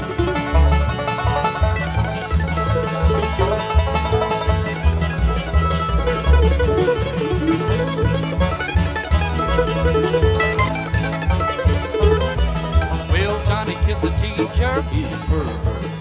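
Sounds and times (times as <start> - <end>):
banjo: 0.0 - 16.0
bass pulse: 0.0 - 16.0
guitar: 0.0 - 16.0
mandolin: 0.0 - 16.0.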